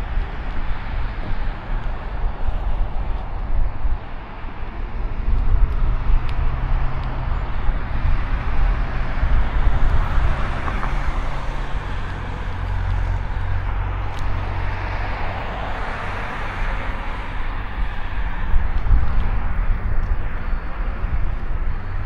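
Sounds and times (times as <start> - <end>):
bike riding on road: 0.0 - 22.0.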